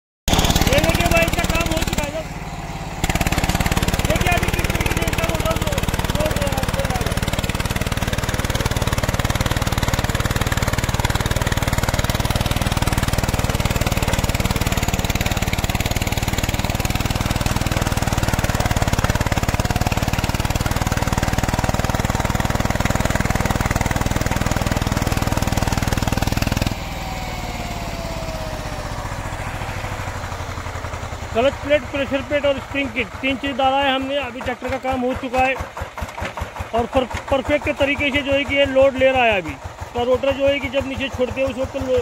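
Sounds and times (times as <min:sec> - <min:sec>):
diesel tiller engine running: 0:00.3 - 0:42.0.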